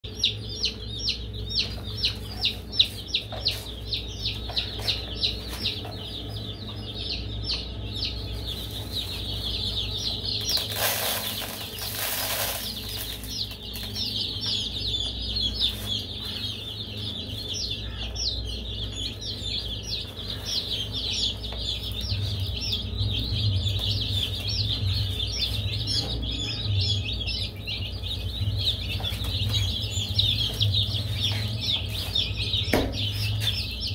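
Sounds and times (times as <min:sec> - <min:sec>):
baby chicks peeping: 0:00.0 - 0:33.9
steady low hum: 0:00.0 - 0:33.9.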